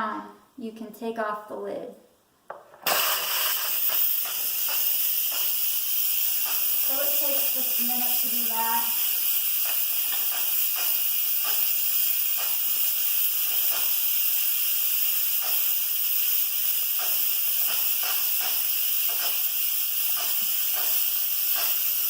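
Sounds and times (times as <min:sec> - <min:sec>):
steam hissing from valve: 0:02.8 - 0:22.0.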